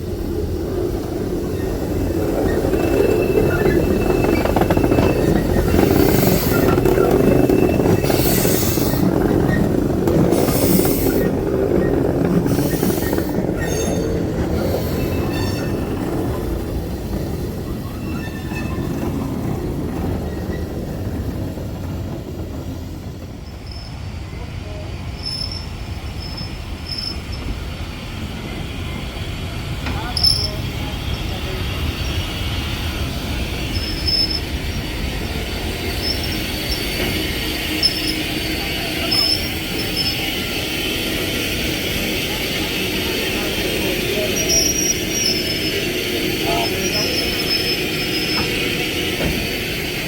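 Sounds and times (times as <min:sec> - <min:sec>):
steam train wheels rumbling: 0:00.0 - 0:50.0
wheel squeal on rails: 0:01.1 - 0:24.2, 0:25.1 - 0:27.7, 0:29.8 - 0:50.0.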